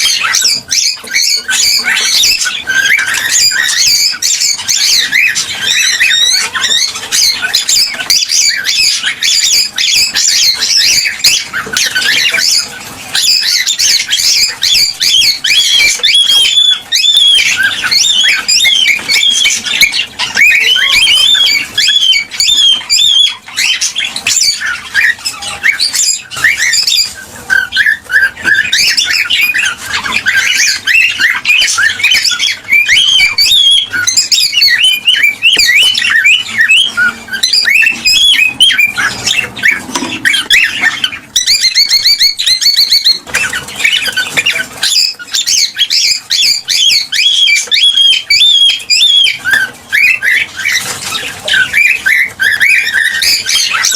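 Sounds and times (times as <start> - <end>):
cockatiels whistled chirps: 0.0 - 53.9.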